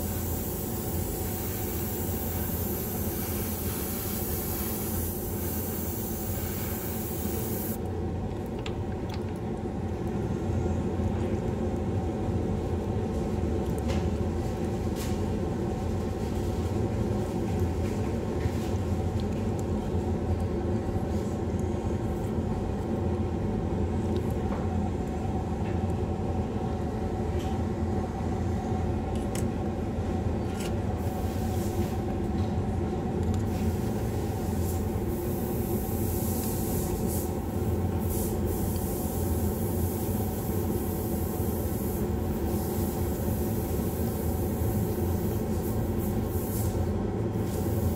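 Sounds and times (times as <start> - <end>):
exhaust fan humming: 0.0 - 47.9.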